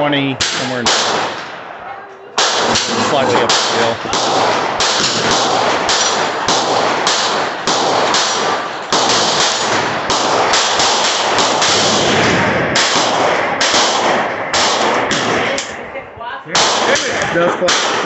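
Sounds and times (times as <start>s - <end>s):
rapid gunfire: 0.0s - 1.8s, 2.4s - 15.8s, 16.5s - 18.0s.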